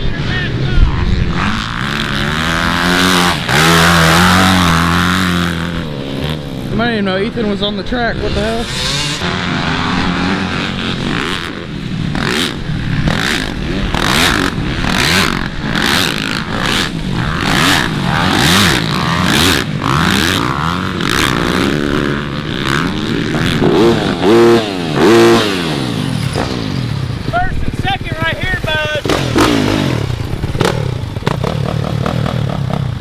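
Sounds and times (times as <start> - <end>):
dirt bike revving hard: 0.0 - 33.0
dirt bikes racing: 0.0 - 33.0.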